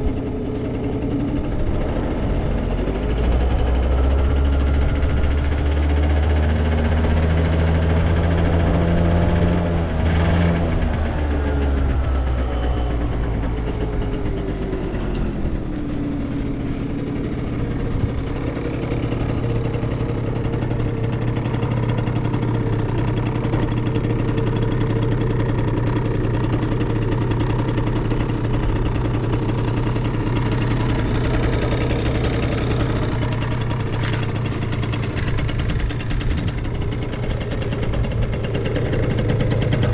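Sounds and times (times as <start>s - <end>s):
scooter engine revving and idling: 0.0s - 39.9s.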